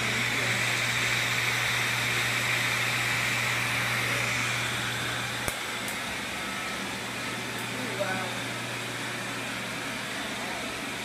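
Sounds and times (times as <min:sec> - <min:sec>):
air cooler whoosh and hum: 0:00.0 - 0:11.0.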